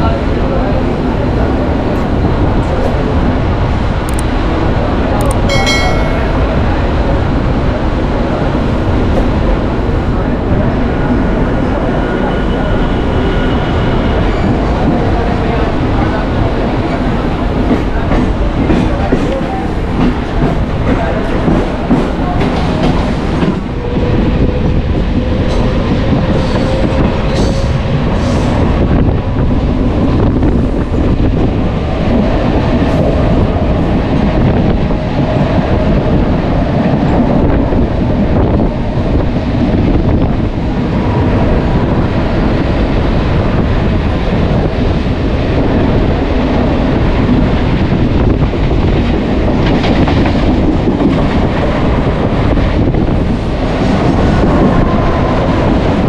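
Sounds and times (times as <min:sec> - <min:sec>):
train clatter: 0:00.0 - 0:10.6, 0:12.3 - 0:56.0
wheels rumbling on rails: 0:00.0 - 0:56.0.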